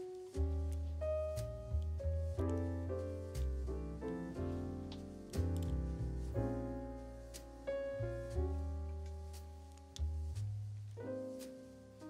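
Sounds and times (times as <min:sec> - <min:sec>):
piano melody over bass line: 0:00.0 - 0:12.0.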